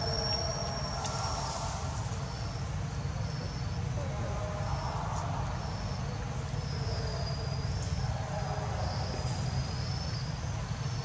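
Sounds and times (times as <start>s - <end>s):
insects chirping in trills: 0.0s - 11.0s
steady low rumble: 0.0s - 11.0s.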